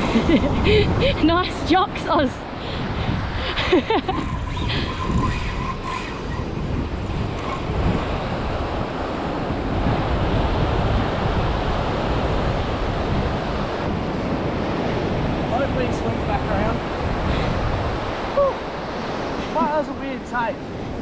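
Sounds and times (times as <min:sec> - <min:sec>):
wind buffeting microphone: 0:00.0 - 0:21.0
surf breaking on beach: 0:02.4 - 0:21.0.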